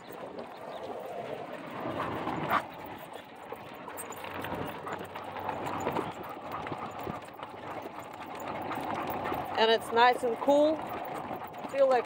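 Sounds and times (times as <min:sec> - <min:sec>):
dog paws trotting on gravel: 0:00.0 - 0:12.0.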